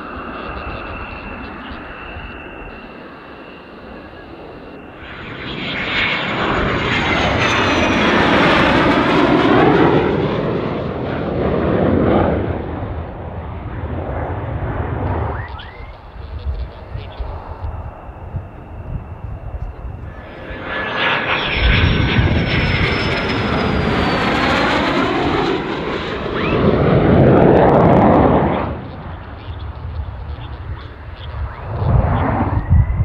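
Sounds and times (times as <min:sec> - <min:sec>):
high jet whine falling: 0:00.0 - 0:33.0
jet roar passing: 0:00.0 - 0:33.0.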